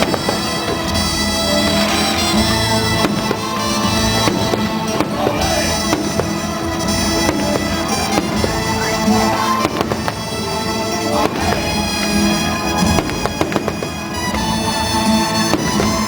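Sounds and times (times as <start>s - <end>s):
fireworks bangs: 0.0s - 16.0s
instrumental show music: 0.0s - 16.0s.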